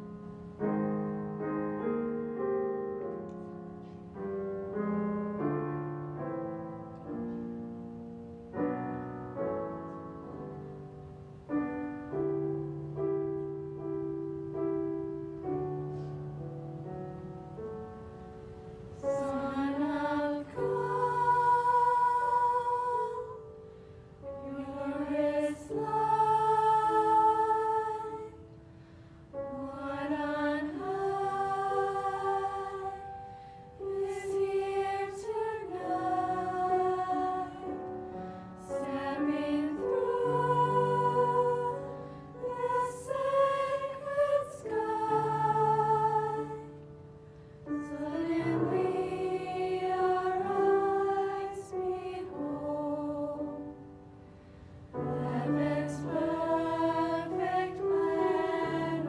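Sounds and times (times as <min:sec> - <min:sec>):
choir singing a carol: 0:03.4 - 0:59.0.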